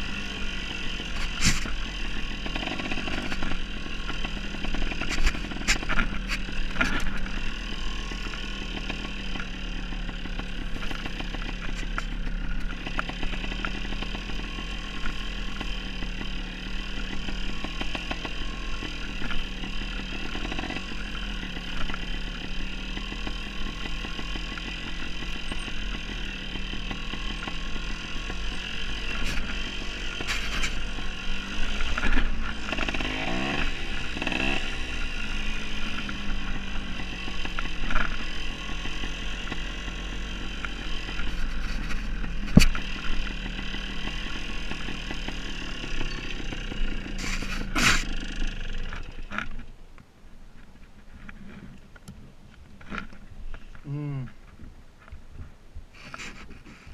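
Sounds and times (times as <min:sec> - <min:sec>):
dirt bike engine running: 0:00.0 - 0:49.8
knocks and rattles over bumps: 0:01.0 - 0:56.9.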